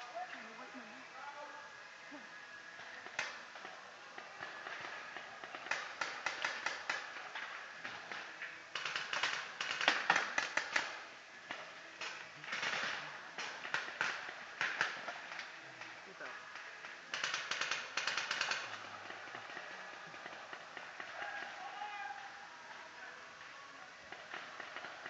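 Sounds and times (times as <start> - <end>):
paintball markers firing: 2.8 - 22.3, 23.4 - 25.0.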